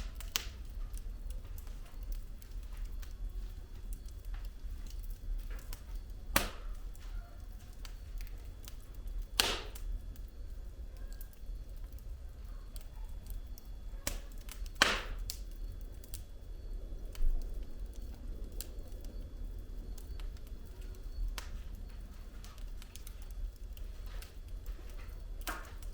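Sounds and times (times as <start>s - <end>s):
logs crackling: 0.0s - 16.3s, 17.0s - 25.9s
fire rumbling: 0.0s - 25.9s
loud fire pops: 0.0s - 25.9s.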